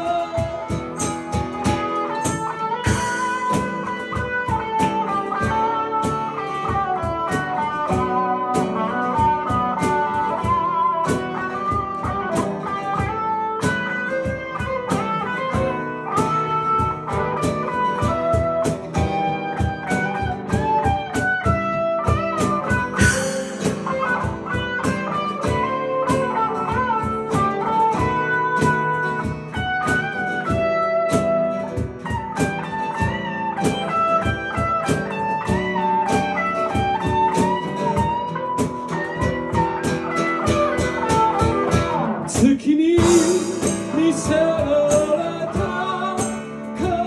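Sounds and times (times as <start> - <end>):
guitar playing: 0.0 - 47.0.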